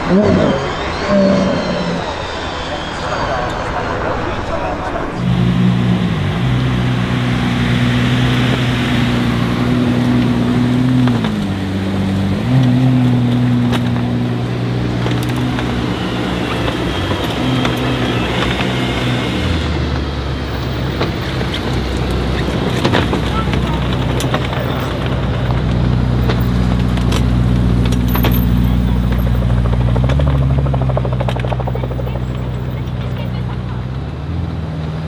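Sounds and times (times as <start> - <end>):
car engine idling: 4.9 - 35.0.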